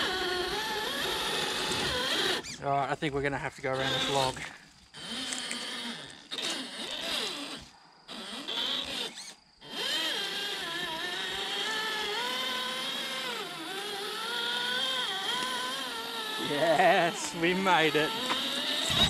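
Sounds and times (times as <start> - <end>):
rc car electric motor whining: 0.0 - 2.6, 3.7 - 19.0.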